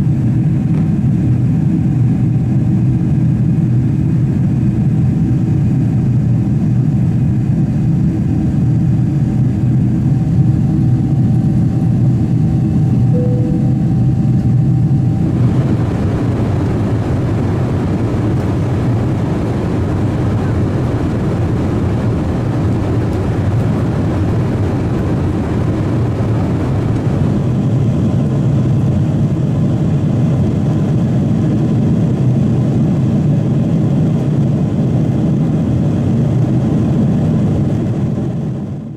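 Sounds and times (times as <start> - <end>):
airplane engine and airflow noise: 0.0 - 38.9.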